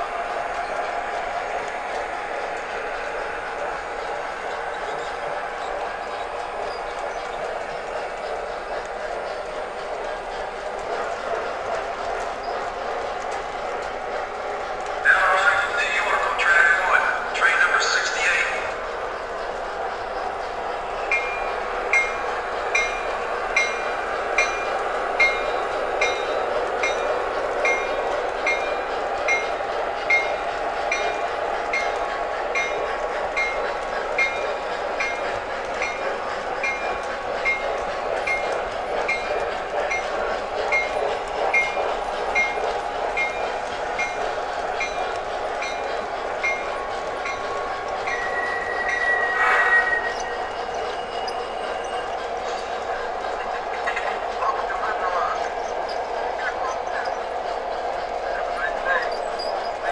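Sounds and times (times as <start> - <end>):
model train rumble: 0.0 - 59.9.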